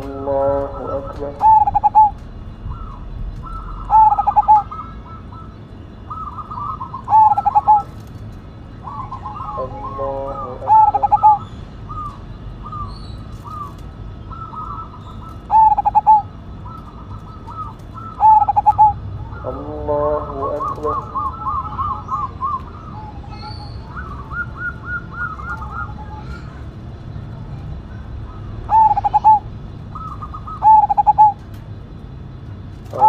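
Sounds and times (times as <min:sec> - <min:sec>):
faint dove cooing: 0:00.0 - 0:08.1, 0:08.8 - 0:31.6
dove stuttering cooing: 0:00.0 - 0:31.6.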